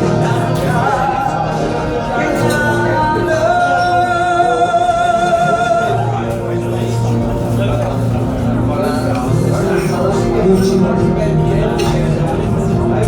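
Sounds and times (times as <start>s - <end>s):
backing music: 0.0s - 13.0s
person singing: 0.0s - 13.0s.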